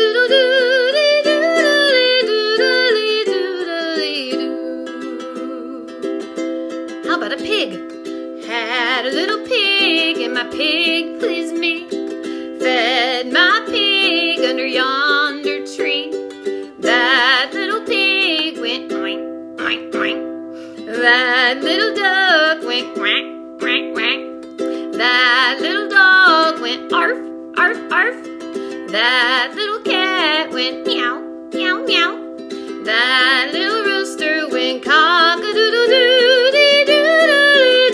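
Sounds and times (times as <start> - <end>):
strummed ukulele: 0.0 - 37.9
woman singing folk song: 0.0 - 37.9.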